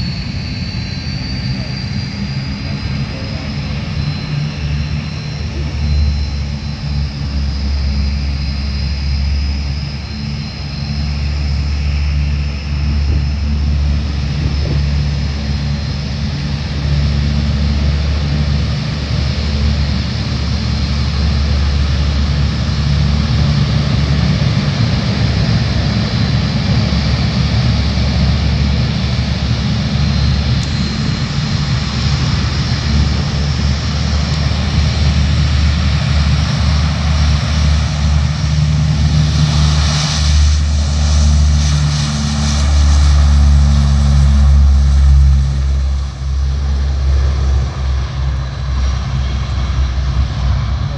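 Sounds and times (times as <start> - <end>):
turboprop engines droning: 0.0 - 50.9.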